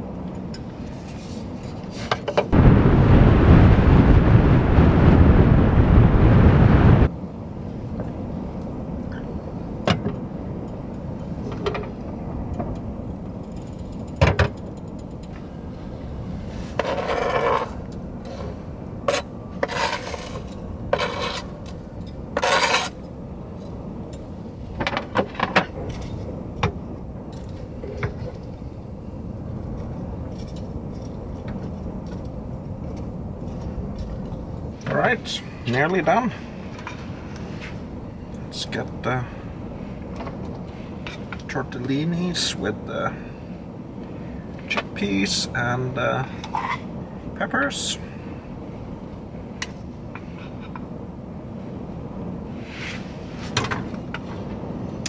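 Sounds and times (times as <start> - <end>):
low background rumble: 2.5 - 47.4.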